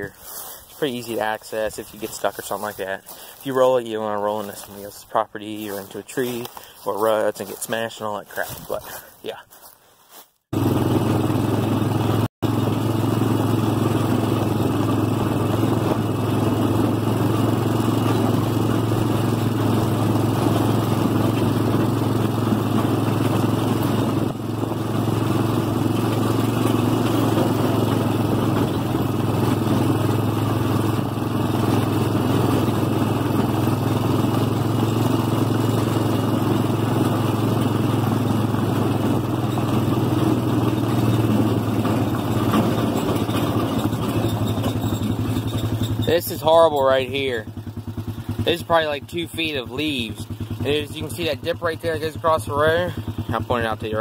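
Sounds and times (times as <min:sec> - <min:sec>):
atv engine running steadily: 0:00.0 - 0:09.7, 0:10.5 - 0:54.0.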